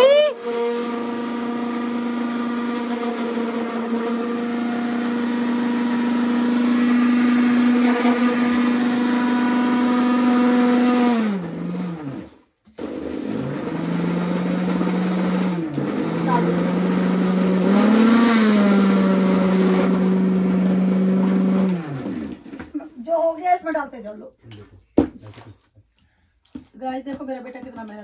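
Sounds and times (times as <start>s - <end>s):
electric mixer grinder running: 0.0s - 22.8s.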